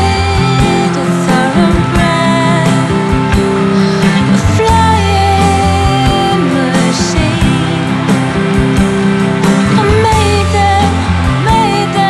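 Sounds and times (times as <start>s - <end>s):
band music with steady beat: 0.0s - 12.0s.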